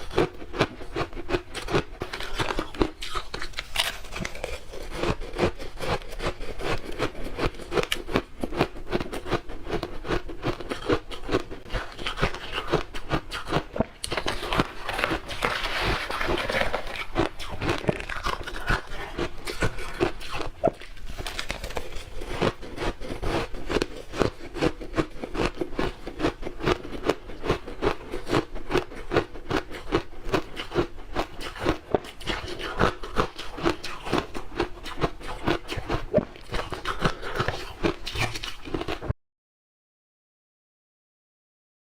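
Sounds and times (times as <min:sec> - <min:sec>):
chewing crunchy ice: 0:00.0 - 0:39.2.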